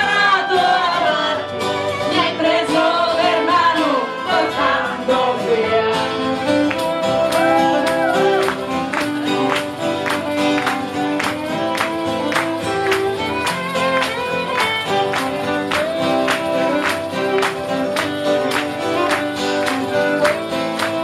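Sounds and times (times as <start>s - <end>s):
strummed acoustic guitar: 0.0s - 21.0s
fiddle playing: 1.3s - 5.0s, 5.6s - 21.0s.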